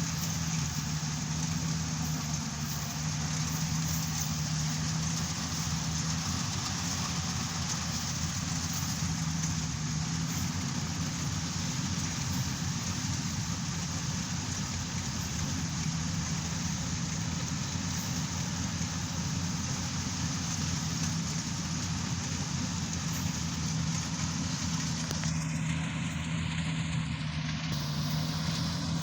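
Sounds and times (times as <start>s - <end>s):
combine harvester droning: 0.0s - 29.0s.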